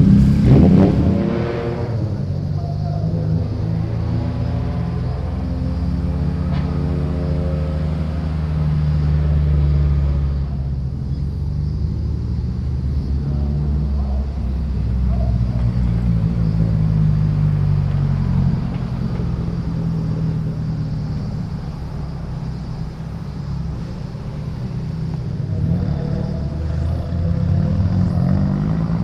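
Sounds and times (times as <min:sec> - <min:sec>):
car engines rumbling at low revs: 0:00.0 - 0:29.0.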